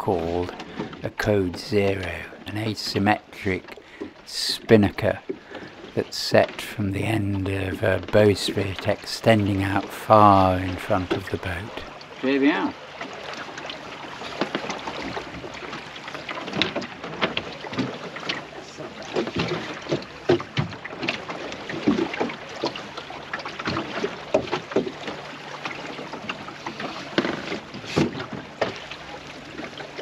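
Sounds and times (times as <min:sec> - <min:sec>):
small waves slapping a boat hull: 0:00.0 - 0:30.0.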